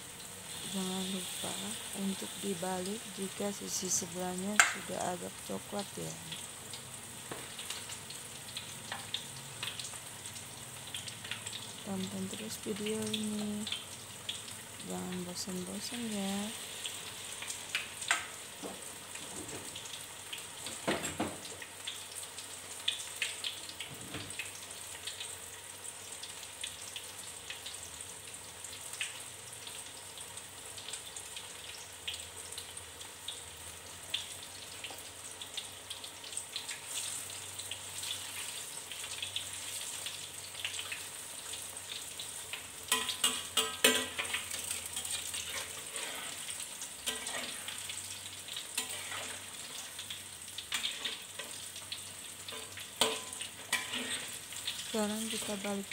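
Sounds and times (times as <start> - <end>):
fritters sizzling in hot oil: 0.0 - 55.9.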